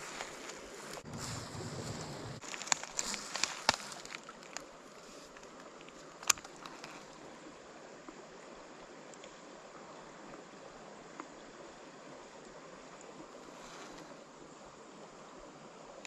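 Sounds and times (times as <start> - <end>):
faint creek water rushing: 0.0 - 16.0.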